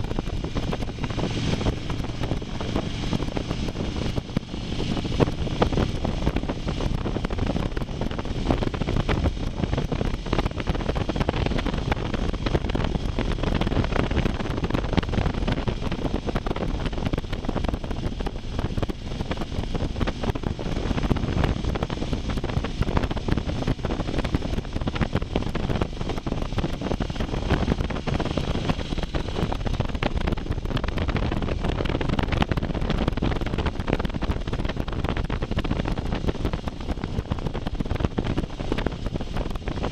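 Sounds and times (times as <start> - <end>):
motorcycle engine: 0.0 - 39.9
road noise: 0.0 - 39.9
wind rushing over microphone: 0.0 - 39.9.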